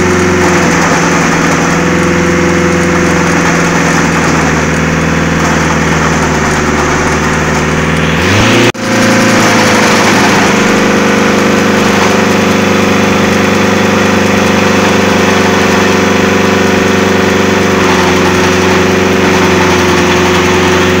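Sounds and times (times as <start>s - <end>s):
wood chipper running: 0.0s - 21.0s.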